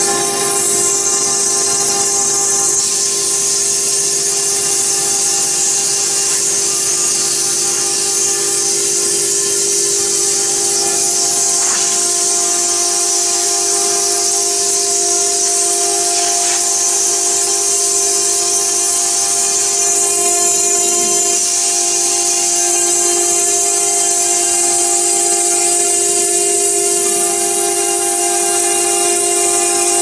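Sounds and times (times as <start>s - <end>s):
router spindle whining: 0.0s - 30.0s.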